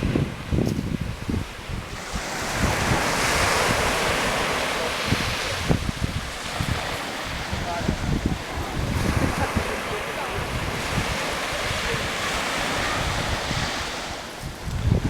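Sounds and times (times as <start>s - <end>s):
sea surf rushing: 0.0s - 15.0s
wind buffeting microphone: 0.0s - 15.0s.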